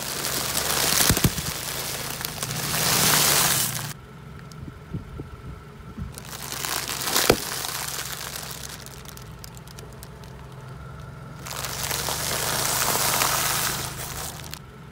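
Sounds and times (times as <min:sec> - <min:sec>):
plastic crinkling: 0:00.0 - 0:04.0, 0:06.1 - 0:14.6
tyre crunching snack bags: 0:00.0 - 0:04.0, 0:06.1 - 0:14.6
sharp crack: 0:00.0 - 0:04.6, 0:06.1 - 0:14.6.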